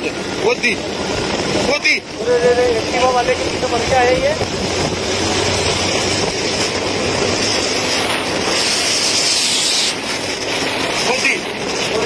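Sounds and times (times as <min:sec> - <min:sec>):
road and engine noise: 0:00.0 - 0:12.0
wind rush on microphone: 0:00.0 - 0:12.0.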